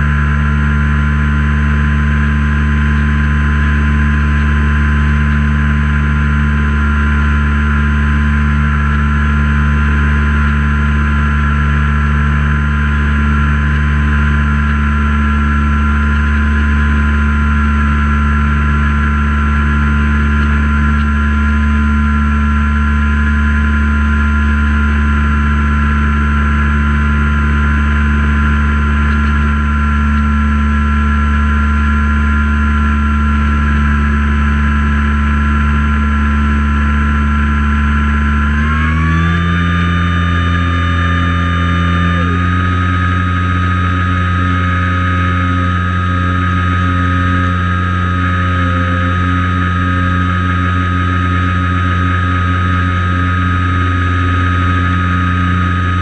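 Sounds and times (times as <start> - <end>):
propeller plane engine drone: 0.0 - 56.0.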